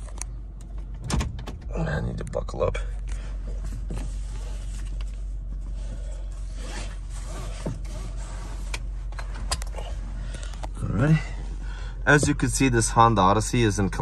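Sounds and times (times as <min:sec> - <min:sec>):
car cabin engine and tyre drone: 0:00.0 - 0:14.0.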